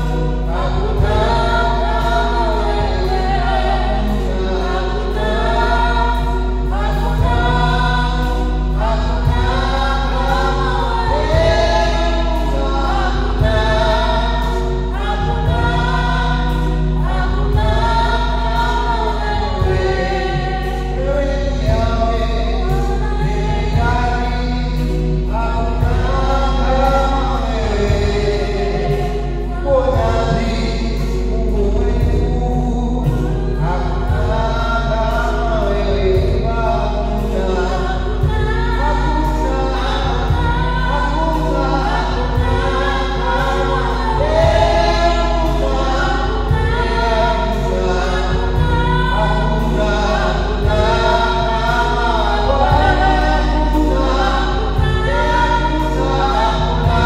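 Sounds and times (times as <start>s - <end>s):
group singing gospel song: 0.0s - 57.0s
low accompaniment with beat: 0.0s - 57.0s.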